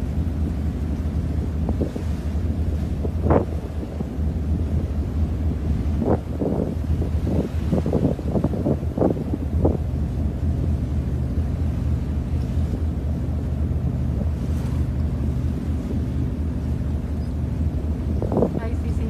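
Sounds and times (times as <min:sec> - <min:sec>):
ferry engine droning: 0:00.0 - 0:19.0
wind on microphone: 0:00.0 - 0:19.0.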